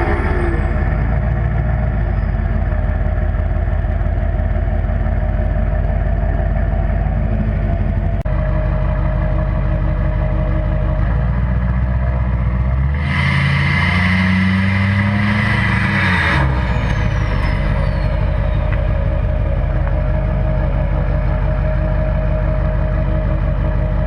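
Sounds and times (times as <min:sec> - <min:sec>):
diesel engine idling and revving: 0:00.0 - 0:24.0.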